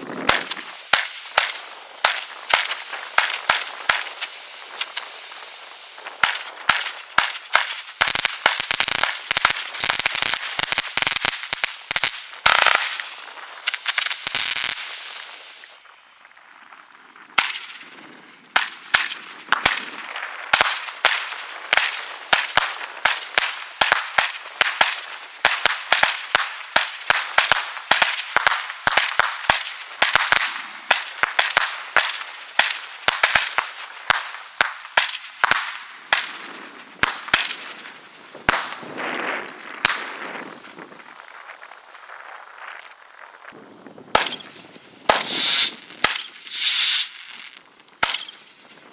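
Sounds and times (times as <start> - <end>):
fireworks battery firing shots: 0.0 - 15.8, 17.3 - 43.0, 44.0 - 48.9
fireworks crackling bangs: 0.0 - 48.9
hiss of rising fireworks: 0.0 - 48.9.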